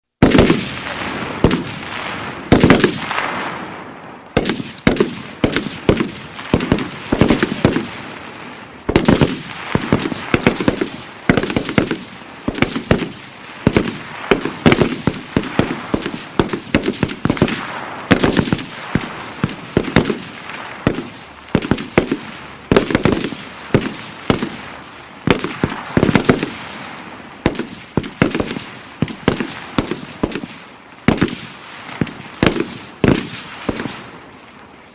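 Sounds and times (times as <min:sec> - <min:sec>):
rifle shots with echo: 0:00.2 - 0:34.3.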